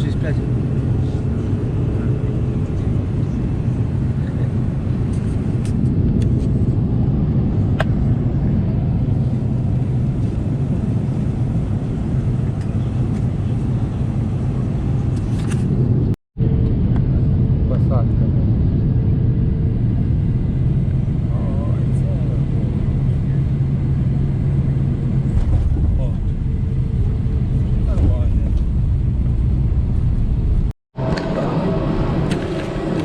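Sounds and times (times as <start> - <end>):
airplane cabin engine rumble: 0.0 - 33.0.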